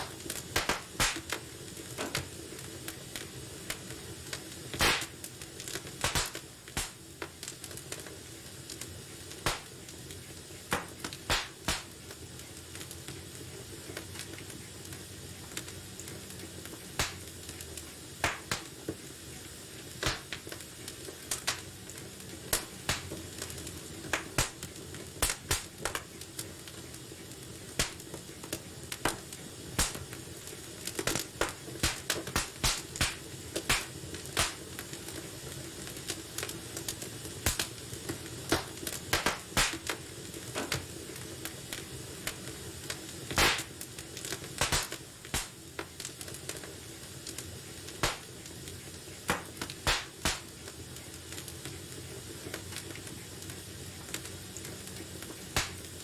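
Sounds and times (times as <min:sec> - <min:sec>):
fire hissing: 0:00.0 - 0:56.0
wood fire crackling and popping: 0:00.0 - 0:56.0.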